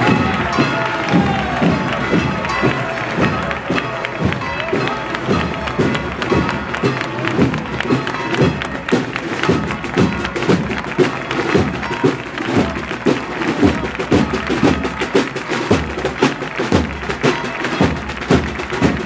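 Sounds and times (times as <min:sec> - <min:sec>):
crowd clapping: 0:00.0 - 0:19.0
processional band music: 0:00.0 - 0:19.0.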